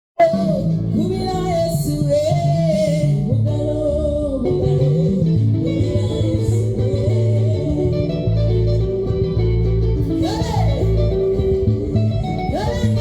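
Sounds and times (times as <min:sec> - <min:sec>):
person singing: 0:00.2 - 0:13.0
plucked guitar melody: 0:00.2 - 0:13.0
pulsing bass guitar: 0:00.2 - 0:13.0.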